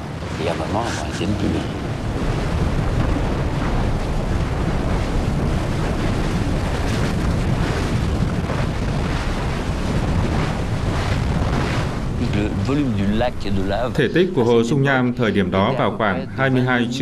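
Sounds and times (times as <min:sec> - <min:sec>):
lava lake deep rumble: 0:00.0 - 0:17.0.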